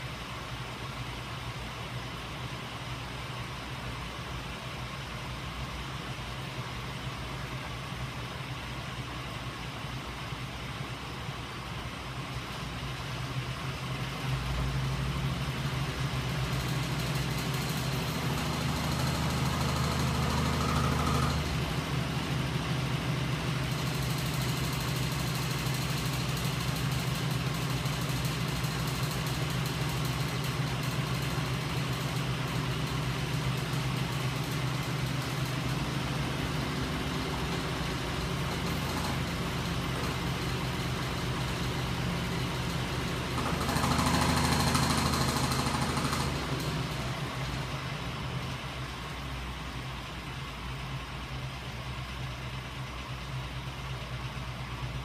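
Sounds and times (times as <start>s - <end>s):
motor hum and mechanical whir: 2.7s - 55.0s.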